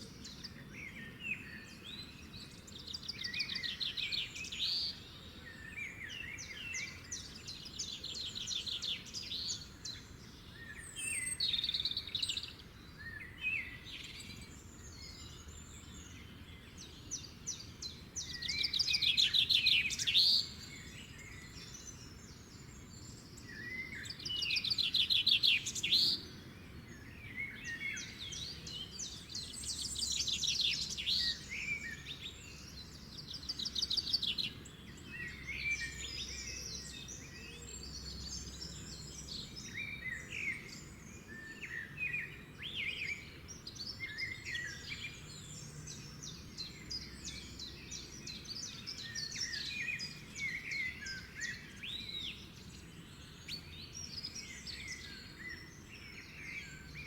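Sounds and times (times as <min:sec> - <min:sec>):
faint low background noise: 0:00.0 - 0:57.0
songbirds singing trills: 0:00.0 - 0:57.0.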